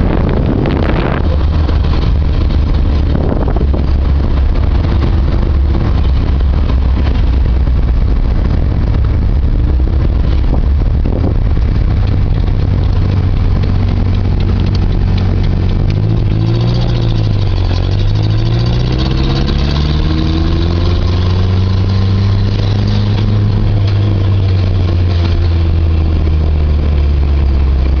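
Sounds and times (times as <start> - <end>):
car engine and exhaust droning: 0.0 - 28.0.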